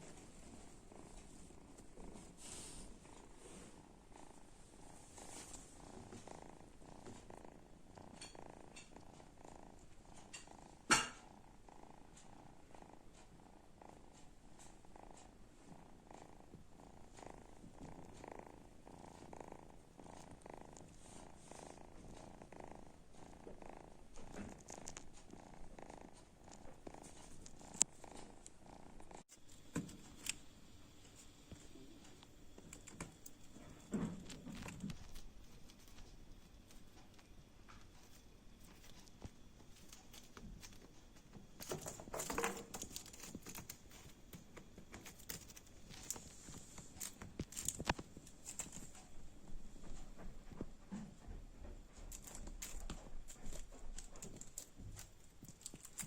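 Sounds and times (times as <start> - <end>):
kitten snoring softly: 0.0 - 56.0.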